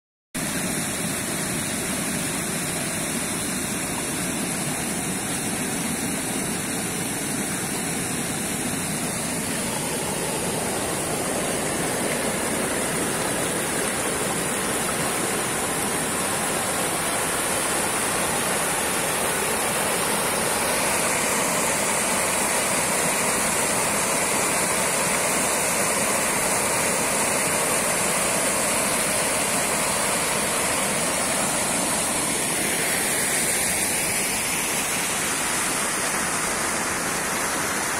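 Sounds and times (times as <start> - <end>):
river rushing over stones: 0.4 - 37.9.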